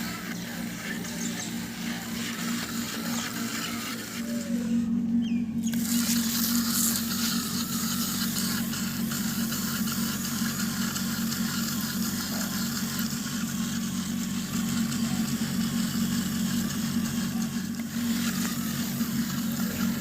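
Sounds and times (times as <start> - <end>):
electric motors whirring: 0.0 - 20.0.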